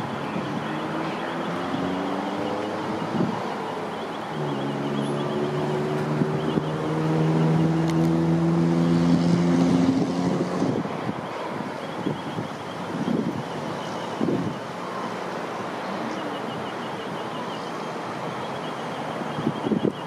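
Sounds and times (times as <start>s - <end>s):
wind noise on microphone: 0.0s - 3.7s, 4.4s - 15.9s, 19.1s - 20.0s.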